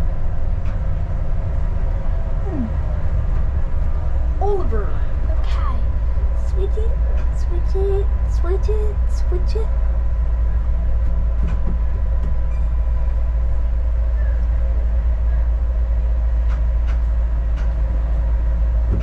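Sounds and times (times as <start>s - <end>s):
constant whine: 0.0s - 19.0s
railcar rumble: 0.0s - 19.0s.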